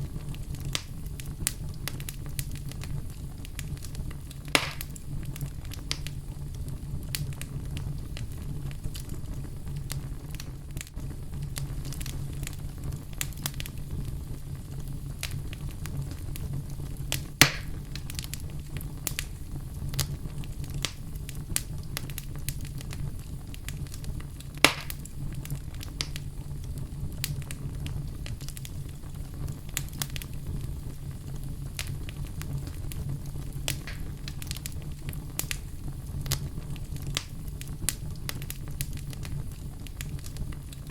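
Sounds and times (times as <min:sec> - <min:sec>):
loud fire pops: 0:00.0 - 0:40.9
low rumble of flames: 0:00.0 - 0:40.9
wood fire crackling: 0:00.0 - 0:40.9.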